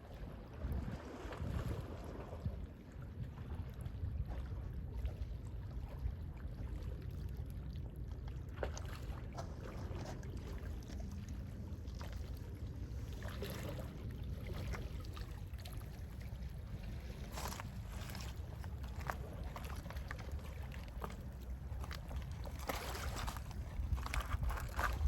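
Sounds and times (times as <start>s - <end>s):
small water splashes: 0.0s - 25.0s
sea waves lapping: 0.1s - 7.8s, 8.4s - 25.0s
steady low rumble: 0.2s - 25.0s.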